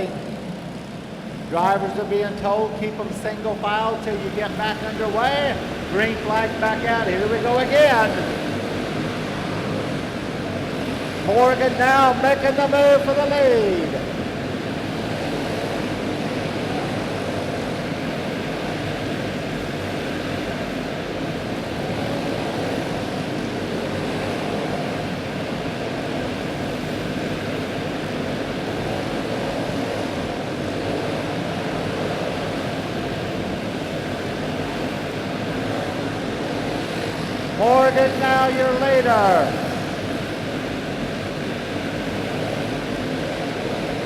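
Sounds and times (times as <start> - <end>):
go-kart engines droning: 0.0 - 44.0.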